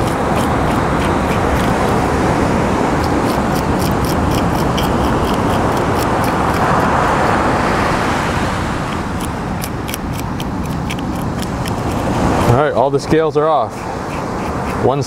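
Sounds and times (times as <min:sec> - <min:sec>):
fish scaler scraping scales: 0:00.0 - 0:07.7, 0:08.8 - 0:15.0.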